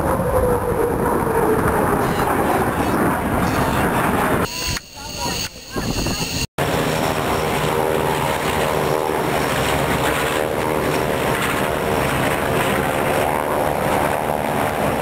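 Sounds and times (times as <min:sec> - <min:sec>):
propeller airplane engine droning: 0:00.0 - 0:15.0.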